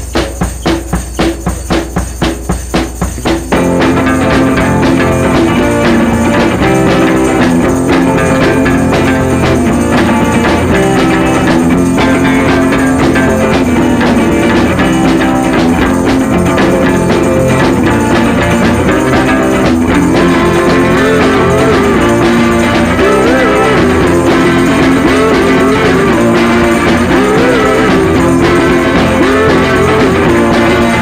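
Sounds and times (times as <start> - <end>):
upbeat rock music: 0.0 - 31.0.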